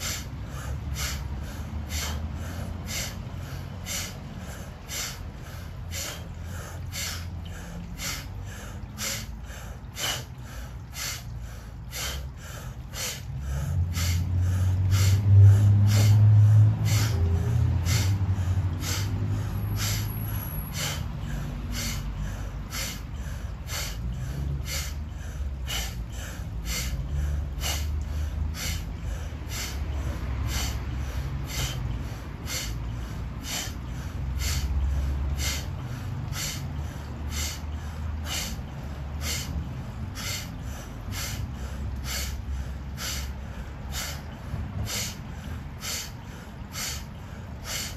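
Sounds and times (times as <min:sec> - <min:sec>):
forceful nasal exhales: 0:00.0 - 0:36.6, 0:37.3 - 0:38.6, 0:39.2 - 0:39.5, 0:40.2 - 0:45.2, 0:45.8 - 0:47.9.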